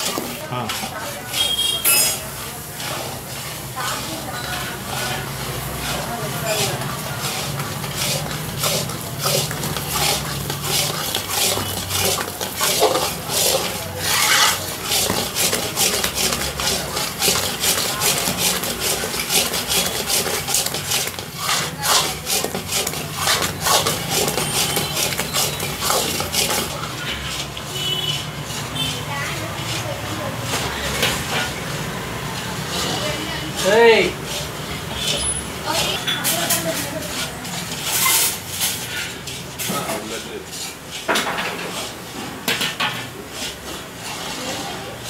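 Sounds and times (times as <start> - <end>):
metal spatula scraping metal pan: 0.0 - 45.0.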